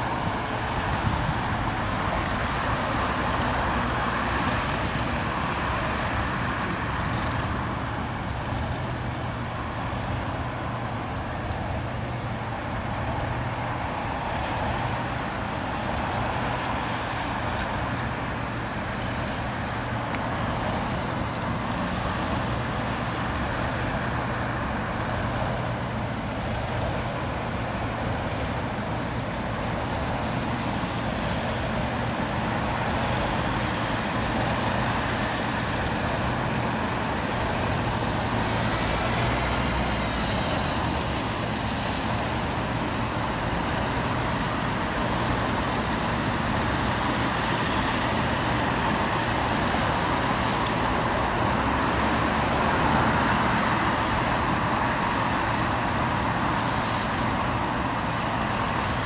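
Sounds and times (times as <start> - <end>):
diesel locomotive engine running: 0.0 - 59.0
road traffic noise: 0.0 - 59.0.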